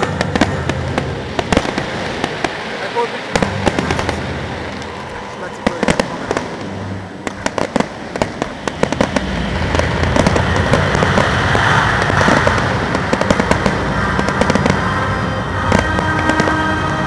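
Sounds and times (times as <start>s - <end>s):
fireworks crackling rumble: 0.0s - 17.0s
fireworks cracks and bangs: 0.0s - 17.0s.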